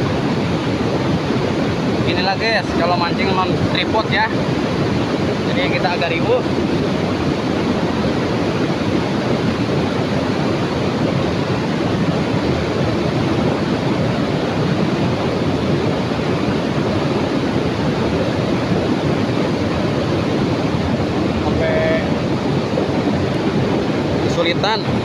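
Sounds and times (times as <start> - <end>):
fast-flowing river water: 0.0 - 25.0.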